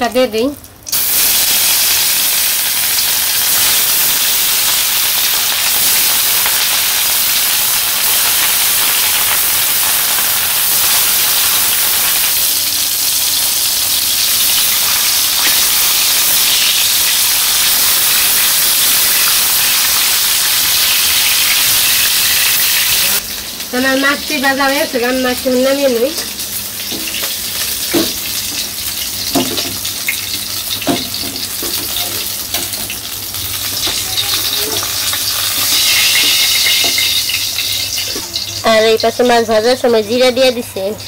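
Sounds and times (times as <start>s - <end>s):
fish sizzling in hot oil: 0.2s - 41.0s.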